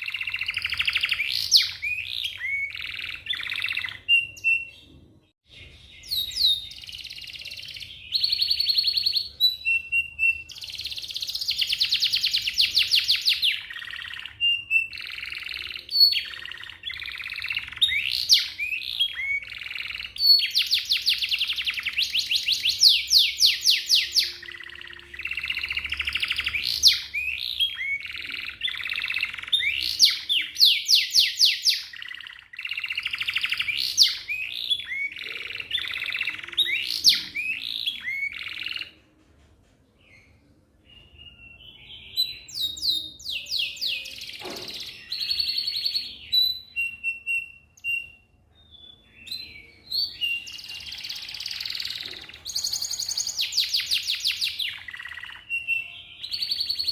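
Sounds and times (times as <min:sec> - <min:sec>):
canary singing: 0:00.0 - 0:39.0, 0:40.0 - 0:56.9.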